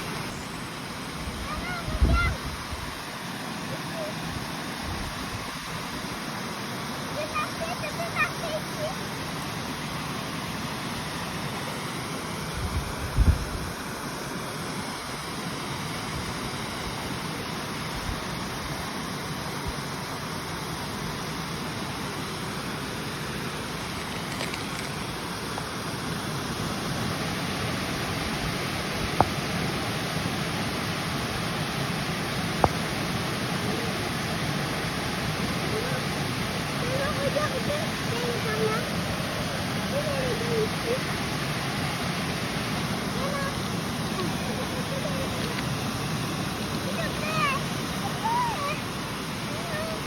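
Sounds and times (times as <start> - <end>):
river water flowing: 0.0 - 50.0.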